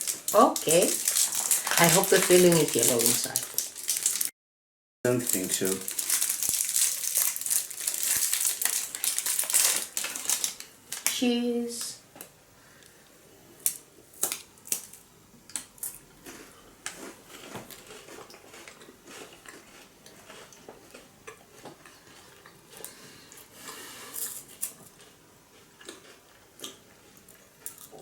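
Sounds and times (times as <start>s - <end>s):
cookies being bitten and chewed: 0.0s - 4.3s, 5.1s - 10.6s, 13.7s - 28.0s.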